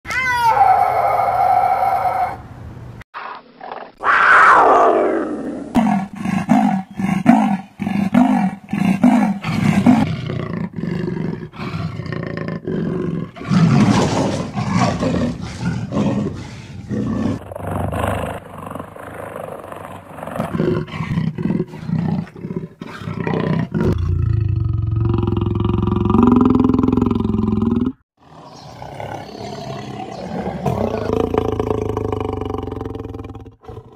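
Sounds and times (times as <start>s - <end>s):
big cat roaring: 3.2s - 33.9s
big cat snarling and growling: 3.2s - 33.9s
big cat grunting: 5.7s - 33.9s.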